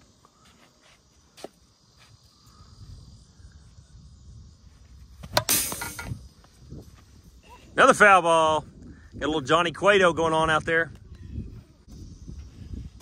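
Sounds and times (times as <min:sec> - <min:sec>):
crickets chirring: 0:00.0 - 0:13.0
wind rumbling on microphone: 0:02.2 - 0:13.0.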